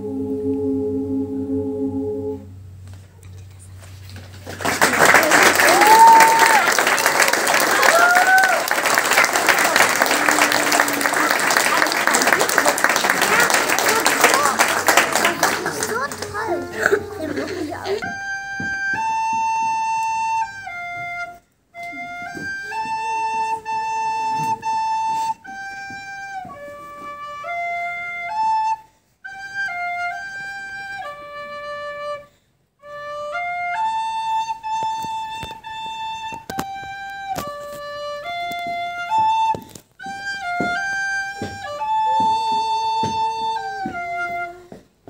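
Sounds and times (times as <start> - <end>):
wooden flute melody: 4.9 - 45.0.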